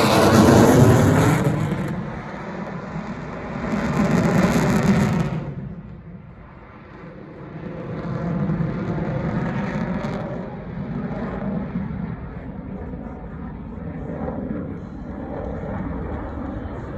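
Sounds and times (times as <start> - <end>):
jet flyover rumble: 0.0 - 16.9.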